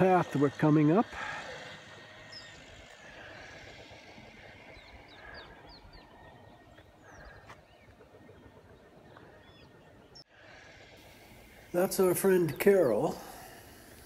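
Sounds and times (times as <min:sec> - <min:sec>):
low rumbling background: 0:00.0 - 0:14.0
small birds chirping: 0:00.0 - 0:14.0.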